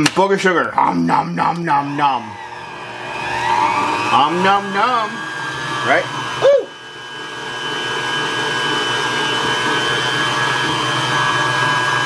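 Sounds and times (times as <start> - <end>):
stand mixer whining: 1.3 - 12.0.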